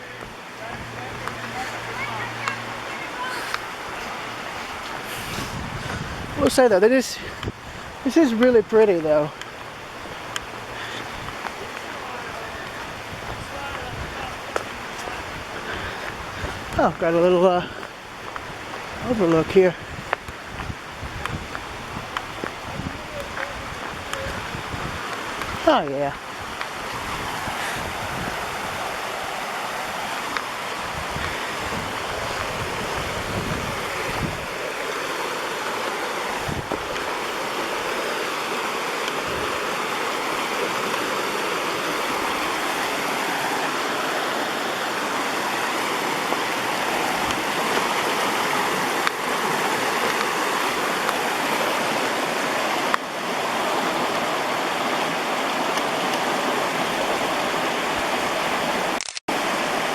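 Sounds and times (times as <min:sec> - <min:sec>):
rushing creek water: 0:00.0 - 0:59.9
wind buffeting microphone: 0:00.2 - 0:58.8.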